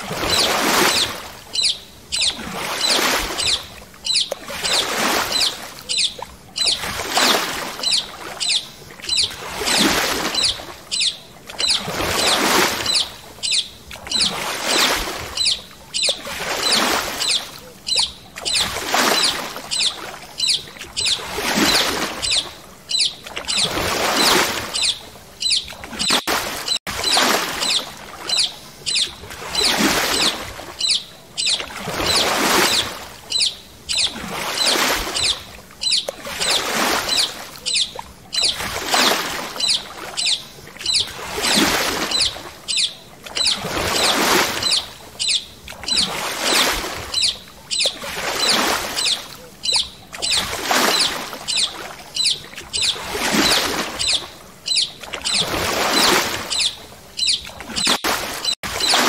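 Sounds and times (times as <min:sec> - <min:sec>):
water swishing in surges: 0:00.0 - 0:59.0.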